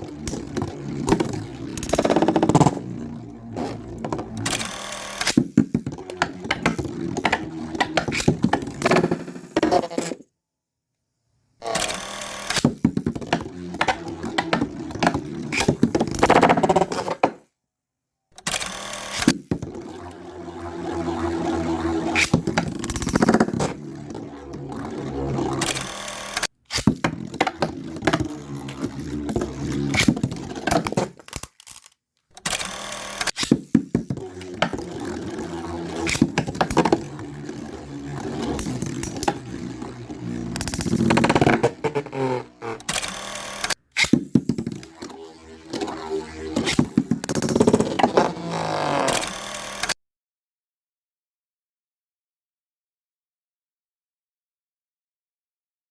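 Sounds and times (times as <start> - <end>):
spinning tops whirring: 0.0 - 9.6, 11.7 - 16.8, 18.5 - 31.8, 32.4 - 49.9.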